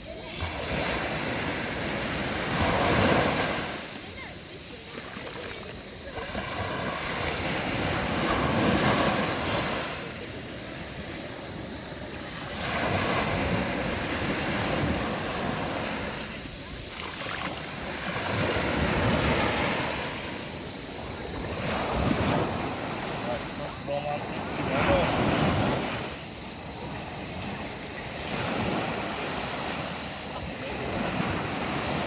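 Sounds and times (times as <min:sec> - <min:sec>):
sea waves breaking on shore: 0:00.0 - 0:32.0.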